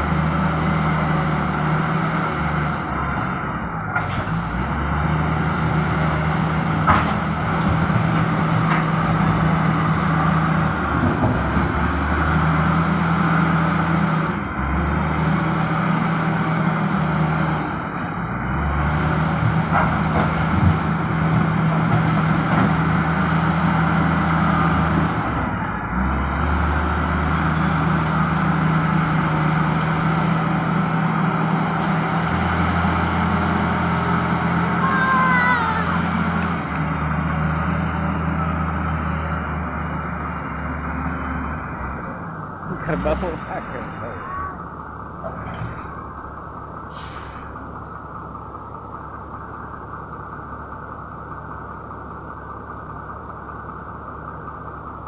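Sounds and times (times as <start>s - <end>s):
diesel engine of loader working: 0.0s - 55.0s.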